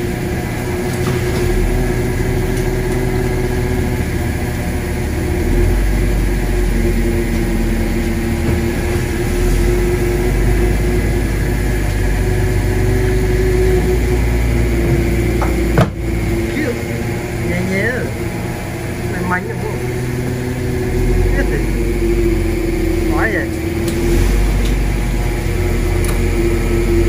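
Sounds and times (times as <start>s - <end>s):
boat engine rumbling: 0.0s - 27.0s
steady mechanical hum: 0.0s - 27.0s.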